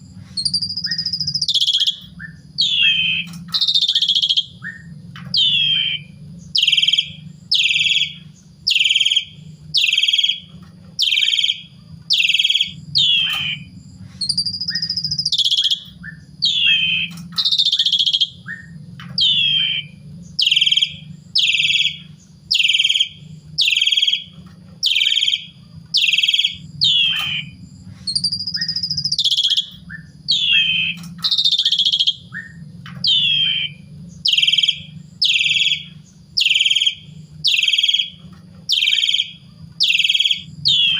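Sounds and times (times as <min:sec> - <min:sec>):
bird calling loudly: 0:00.4 - 0:40.9.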